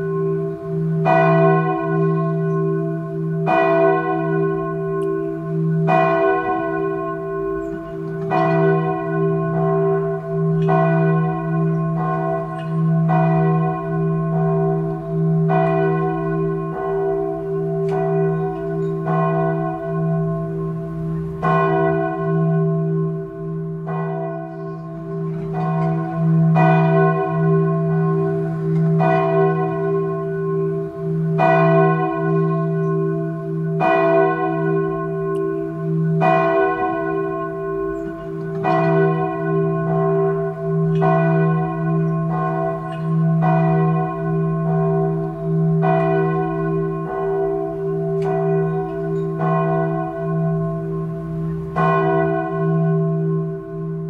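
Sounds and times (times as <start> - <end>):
church bell ringing: 0.0 - 54.0.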